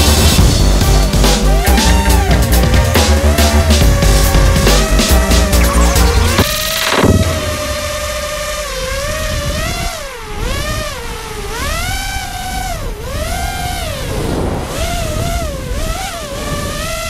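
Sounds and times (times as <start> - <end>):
drone motors whining: 0.0 - 17.0
low wind rumble: 0.0 - 17.0.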